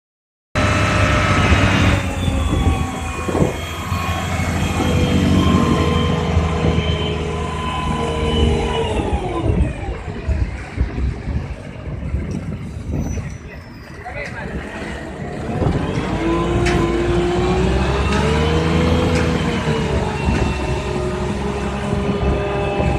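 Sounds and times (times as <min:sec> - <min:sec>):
diesel truck engine running: 0:00.6 - 0:13.0, 0:13.7 - 0:22.9
steady mechanical whine: 0:00.6 - 0:22.9.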